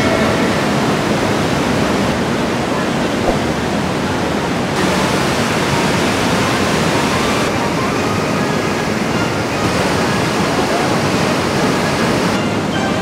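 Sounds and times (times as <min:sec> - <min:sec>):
waterfall roaring: 0:00.1 - 0:12.4.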